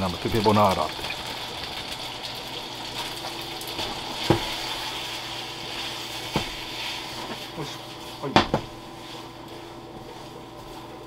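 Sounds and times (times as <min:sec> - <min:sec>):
food sizzling in frying pan: 0:00.0 - 0:10.3.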